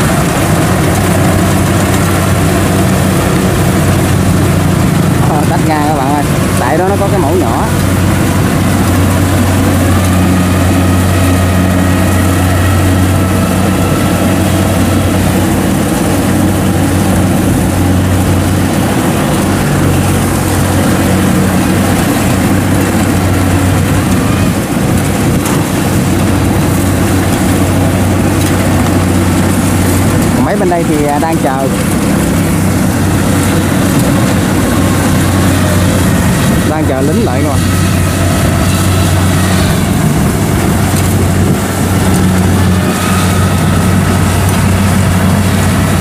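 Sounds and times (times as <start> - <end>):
combine harvester engine drone: 0.0 - 46.0.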